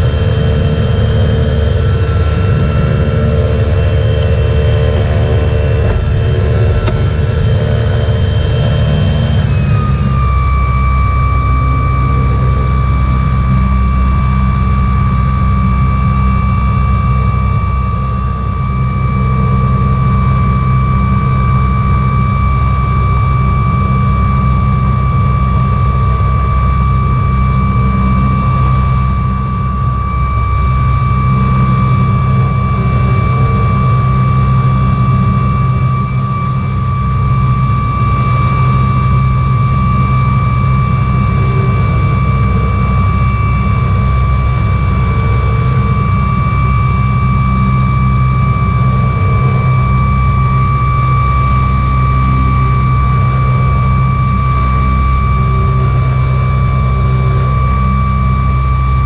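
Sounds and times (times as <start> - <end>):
electric motor and propeller whine: 0.0 - 59.0
low drone: 0.0 - 59.0.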